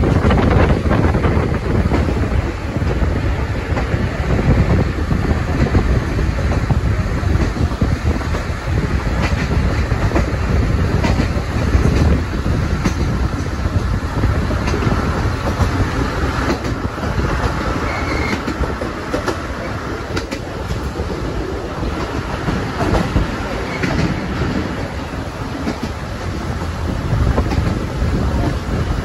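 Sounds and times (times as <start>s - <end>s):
train rumbling along track: 0.0s - 29.0s
wheels clicking over rail joints: 0.0s - 29.0s.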